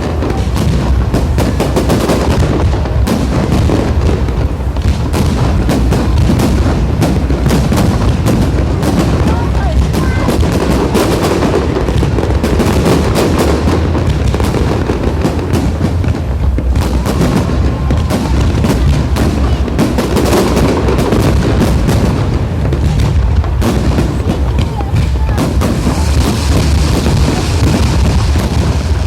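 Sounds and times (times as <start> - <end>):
fireworks bangs and crackles: 0.0 - 29.0
low rumble of shells bursting: 0.0 - 29.0.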